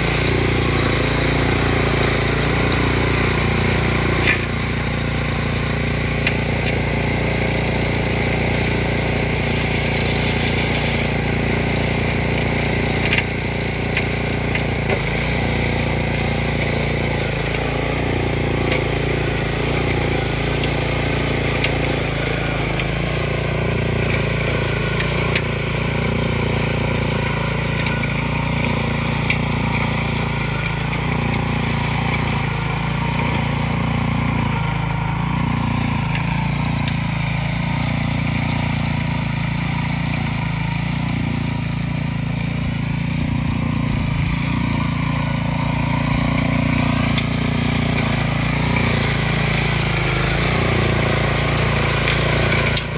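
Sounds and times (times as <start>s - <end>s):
rototiller engine running: 0.0s - 52.9s.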